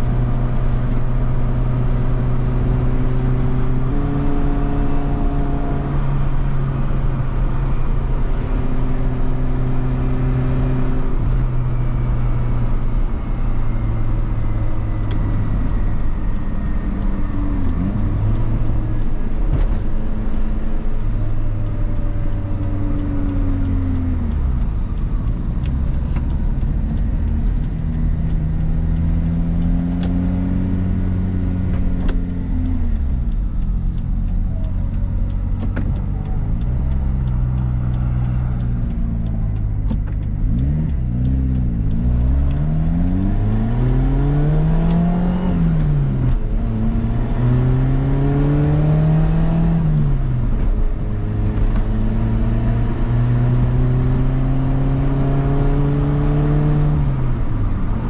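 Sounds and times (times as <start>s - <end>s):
car engine running: 0.0s - 58.0s
tyre and road noise: 0.0s - 58.0s.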